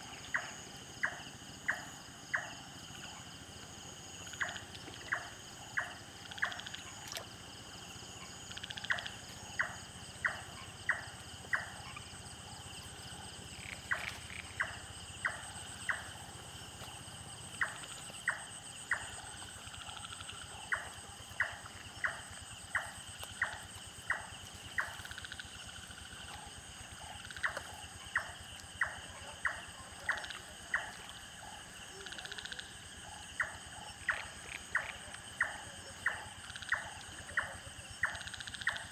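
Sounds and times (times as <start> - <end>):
night insects chirring: 0.0 - 38.9.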